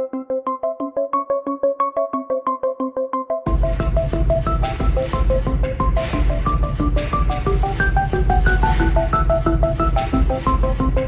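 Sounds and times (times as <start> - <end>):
fast repeating keyboard notes: 0.0 - 11.0.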